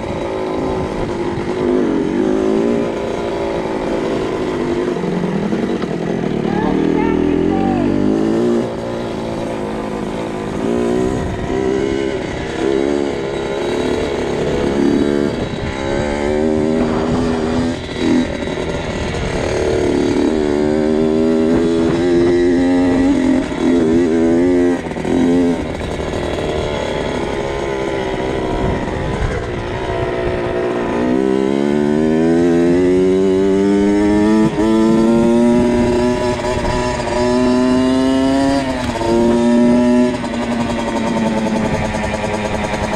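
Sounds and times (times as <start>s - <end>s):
two-stroke motorcycle engine revving: 0.0s - 42.9s.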